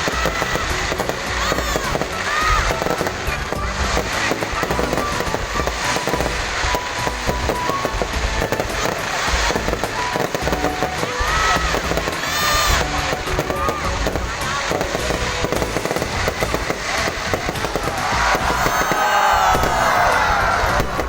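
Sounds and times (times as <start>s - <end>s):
fireworks bangs and crackling pops: 0.0s - 21.0s.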